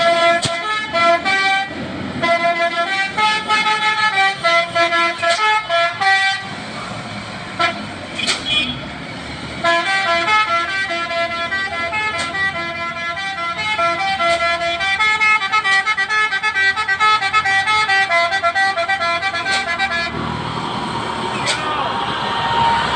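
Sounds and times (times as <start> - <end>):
multi-note musical truck horn: 0.0 - 6.8, 7.5 - 8.9, 9.6 - 22.9.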